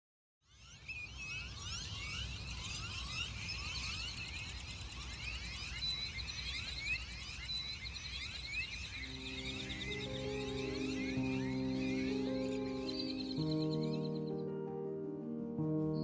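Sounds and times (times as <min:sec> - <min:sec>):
birds chirping chorus: 0:00.6 - 0:16.0.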